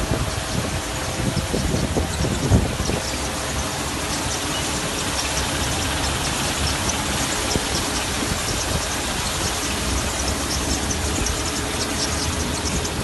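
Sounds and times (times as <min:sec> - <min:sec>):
churning wet noise: 0:00.0 - 0:13.0
machine mechanical rumble: 0:00.0 - 0:13.0.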